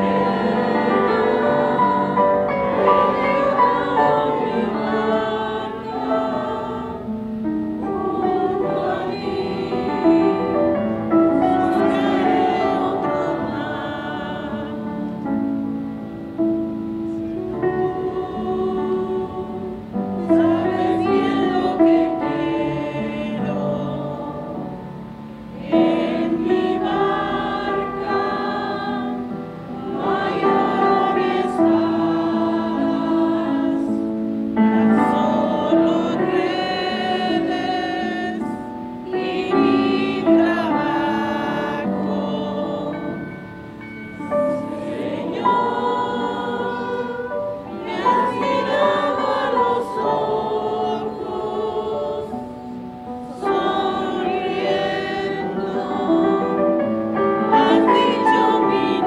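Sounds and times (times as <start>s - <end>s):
group of people singing: 0.0s - 15.8s, 17.0s - 59.0s.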